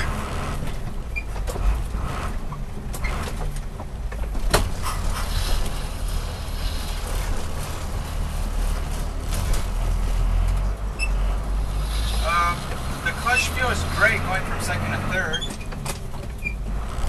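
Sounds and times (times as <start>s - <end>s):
cab rattles: 0.0s - 17.0s
truck engine rumble: 0.0s - 17.0s.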